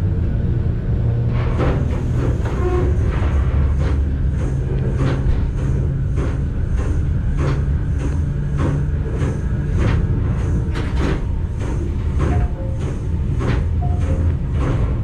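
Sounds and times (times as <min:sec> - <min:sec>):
electric train rumble and hum: 0:00.0 - 0:15.0.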